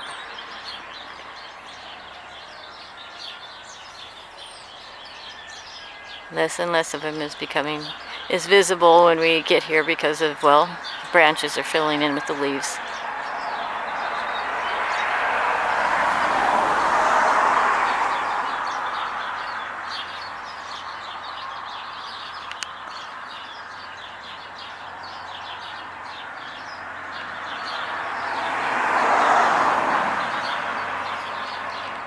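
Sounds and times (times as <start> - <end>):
small birds chirping: 0.0 - 16.2, 16.8 - 32.0
vehicles passing: 0.0 - 32.0.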